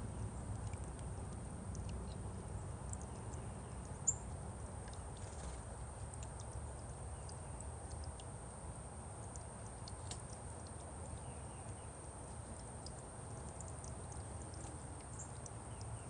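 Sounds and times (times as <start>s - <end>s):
low outdoor rumble: 0.0s - 16.0s
songbirds chipping: 0.0s - 16.0s.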